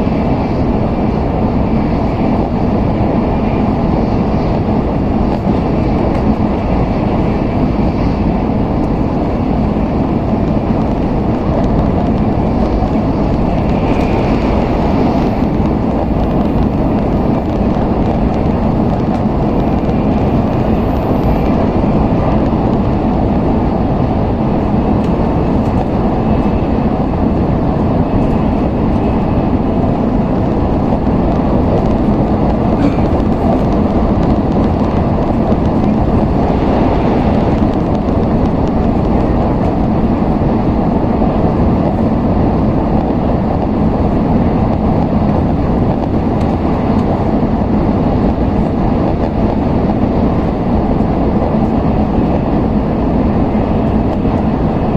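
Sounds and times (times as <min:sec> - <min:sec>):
train cabin rumble: 0:00.0 - 0:54.9.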